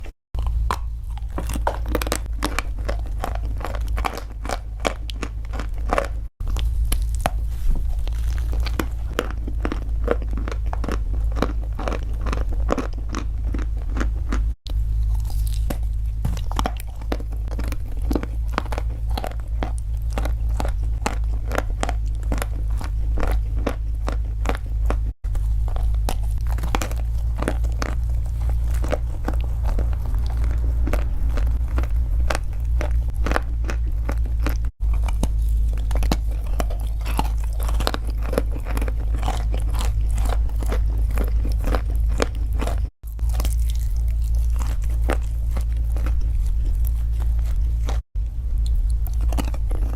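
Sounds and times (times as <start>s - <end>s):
chewing crunchy food: 0.0s - 49.9s
steady low hum: 0.0s - 49.9s.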